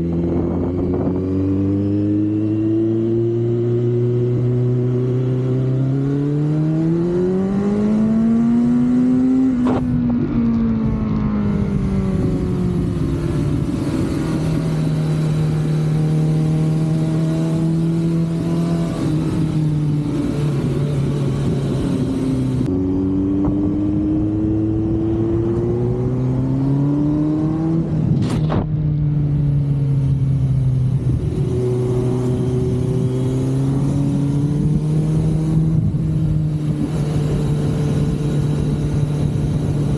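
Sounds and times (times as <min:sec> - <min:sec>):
wind rush over microphone: 0:00.0 - 0:05.6, 0:06.8 - 0:39.9
motorcycle engine revving: 0:00.0 - 0:39.9.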